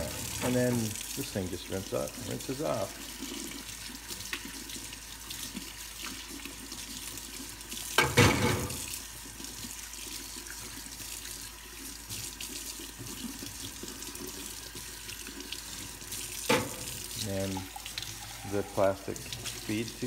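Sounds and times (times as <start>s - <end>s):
faucet water running: 0.0s - 20.0s.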